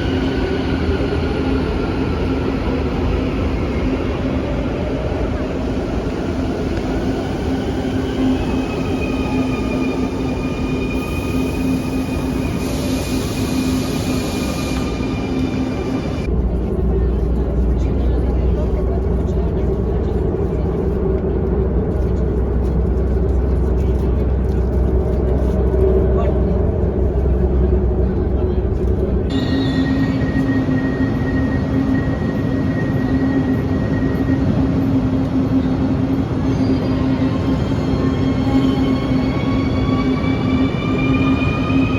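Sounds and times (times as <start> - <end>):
metro train rumbling: 0.0 - 41.9.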